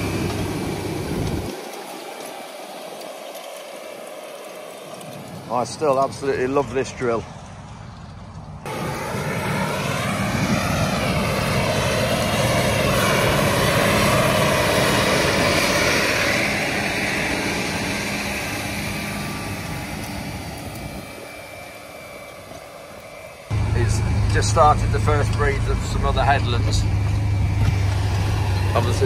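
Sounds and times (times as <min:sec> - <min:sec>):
tractor with seed drill passing: 0:00.0 - 0:29.0.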